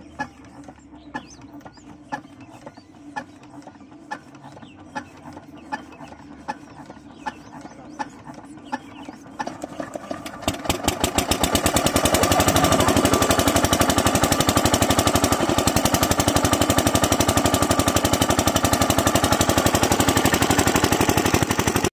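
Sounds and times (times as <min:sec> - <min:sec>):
diesel engine starting and running: 0:00.0 - 0:21.9.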